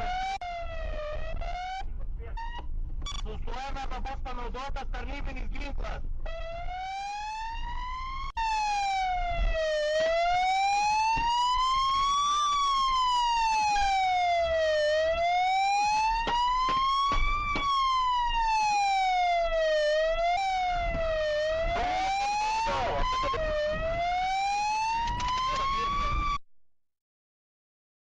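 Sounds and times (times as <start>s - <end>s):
police siren wailing: 0.0s - 2.7s, 6.2s - 26.4s
low road rumble: 0.0s - 26.4s.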